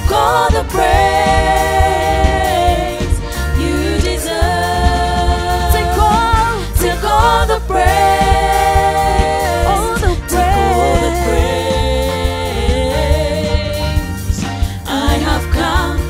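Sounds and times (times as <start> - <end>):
band playing gospel music: 0.0 - 16.0
women singing: 0.0 - 16.0.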